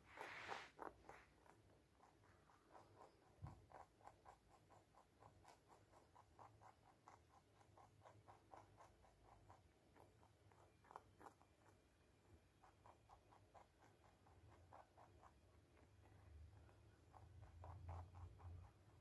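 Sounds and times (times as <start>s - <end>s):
rabbit chewing carrot: 0.0s - 19.0s.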